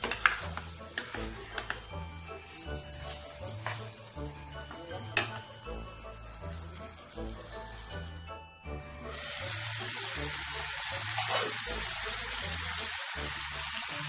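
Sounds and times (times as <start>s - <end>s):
cooking hiss: 0.0s - 8.2s, 8.9s - 14.0s.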